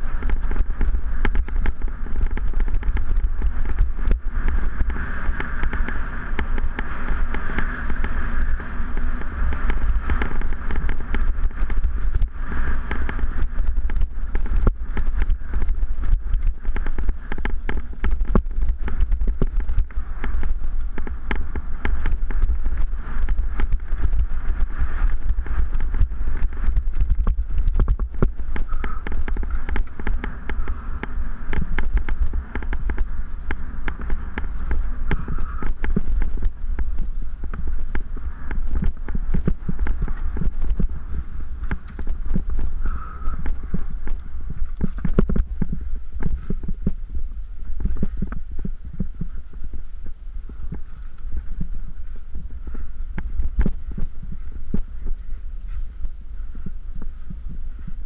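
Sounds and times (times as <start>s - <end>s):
bike clattering over bumps: 0.0s - 58.0s
wind buffeting microphone: 0.0s - 58.0s.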